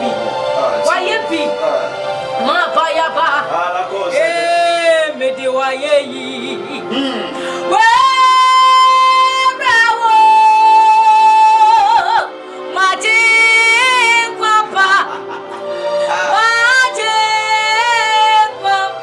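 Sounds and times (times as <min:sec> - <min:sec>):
woman singing gospel song: 0:02.4 - 0:15.4, 0:16.1 - 0:19.0.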